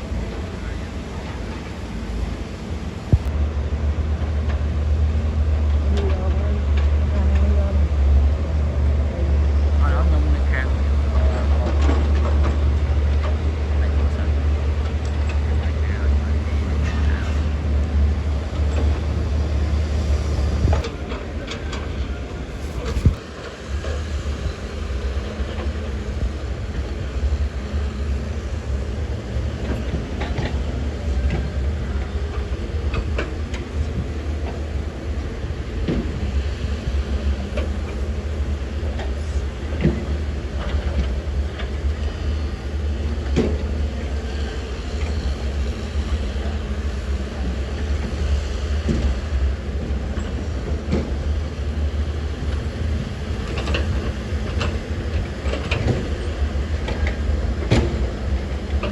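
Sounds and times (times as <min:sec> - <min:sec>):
diesel machinery rumbling: 0:00.0 - 0:58.9.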